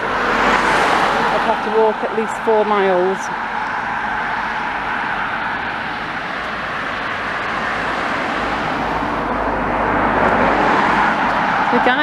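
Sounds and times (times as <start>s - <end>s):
car passing on road: 0.0s - 12.0s
road traffic noise: 0.0s - 12.0s.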